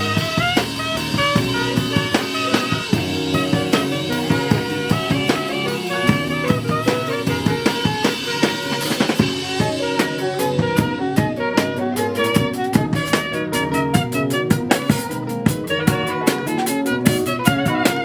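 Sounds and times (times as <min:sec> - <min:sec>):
sustained organ chords: 0:00.0 - 0:17.7
drum kit beat: 0:00.0 - 0:18.0.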